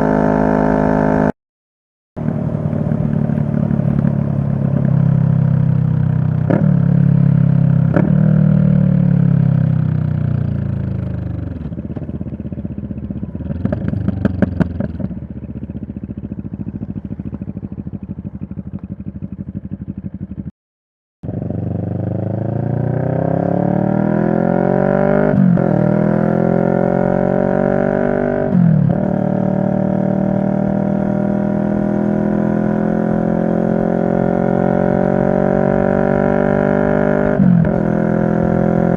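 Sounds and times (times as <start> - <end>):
motorcycle engine: 0.0 - 1.4, 2.2 - 20.5, 21.2 - 38.9.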